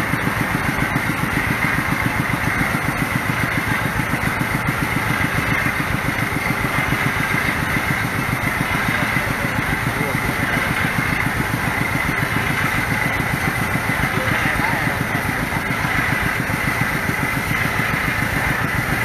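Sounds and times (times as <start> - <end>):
drilling rig engine chugging: 0.0 - 19.0.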